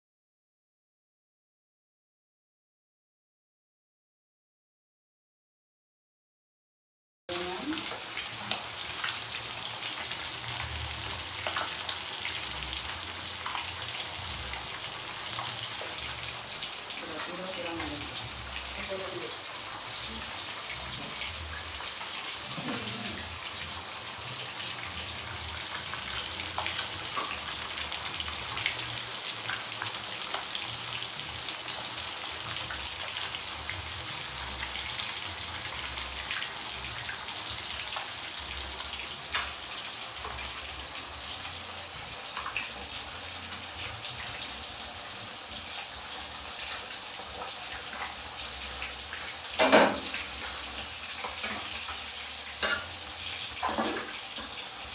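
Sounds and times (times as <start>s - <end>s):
fish deep-frying in hot oil: 7.3s - 54.9s.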